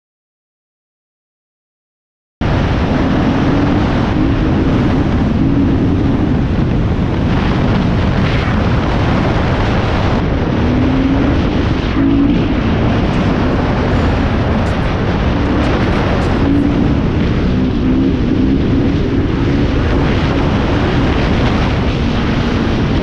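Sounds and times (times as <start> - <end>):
dirt bike engine running: 2.4 - 23.0
wind noise on microphone: 2.4 - 23.0.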